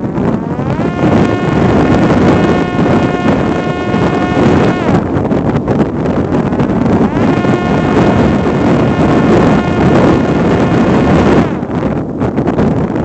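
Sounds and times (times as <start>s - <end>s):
drone motor and propeller whining: 0.0s - 13.0s
wind rush on microphone: 0.0s - 13.0s.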